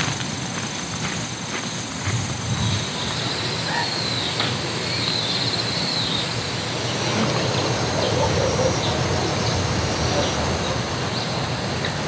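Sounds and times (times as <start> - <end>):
insects droning: 0.0 - 12.0
birds chirping: 0.8 - 12.0.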